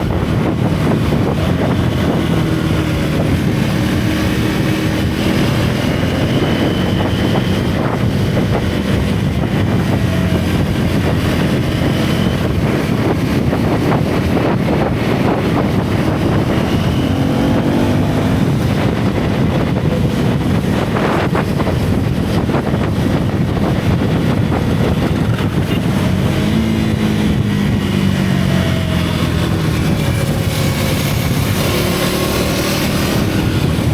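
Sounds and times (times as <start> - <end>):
motorcycle engine revving: 0.0 - 33.9
wind rush on microphone: 0.0 - 33.9.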